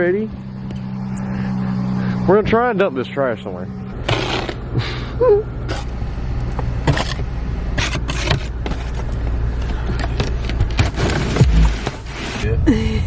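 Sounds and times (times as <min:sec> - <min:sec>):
truck engine running: 0:00.0 - 0:12.4.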